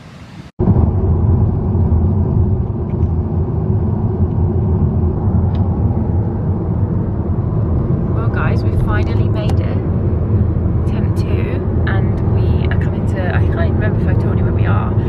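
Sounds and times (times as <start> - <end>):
car cabin road and engine rumble: 0.6 - 15.0.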